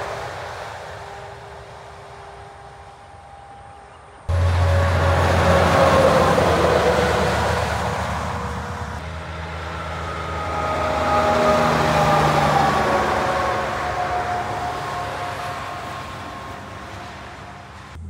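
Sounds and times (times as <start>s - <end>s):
faint distant traffic: 0.0s - 18.0s
heavy truck passing: 0.0s - 18.0s
hum of steady tones: 0.0s - 18.0s.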